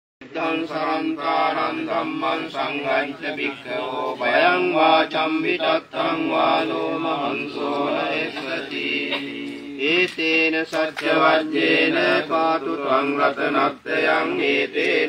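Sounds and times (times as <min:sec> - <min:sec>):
monks chanting: 0:00.2 - 0:15.0.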